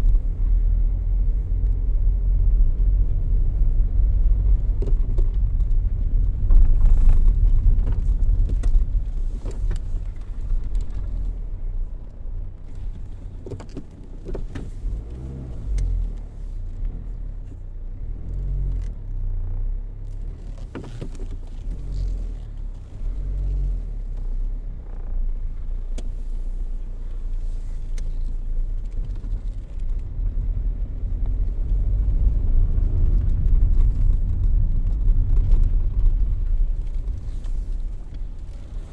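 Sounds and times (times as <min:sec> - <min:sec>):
car engine: 0:00.0 - 0:38.9
road rumble: 0:00.0 - 0:38.9.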